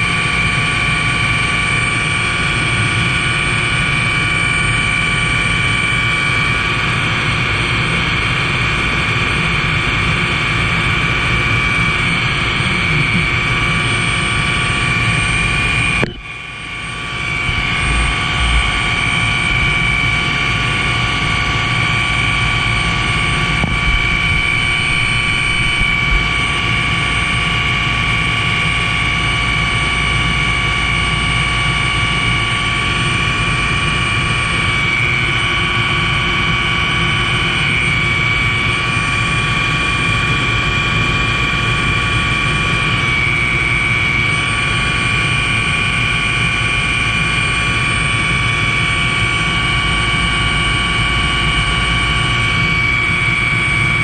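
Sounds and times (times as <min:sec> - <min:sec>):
constant high whine: 0:00.0 - 0:54.0
helicopter engine and rotor: 0:00.0 - 0:54.0.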